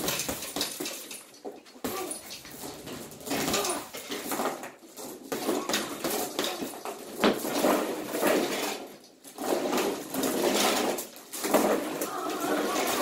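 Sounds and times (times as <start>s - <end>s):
metal clinking and rattling: 0.0s - 13.0s.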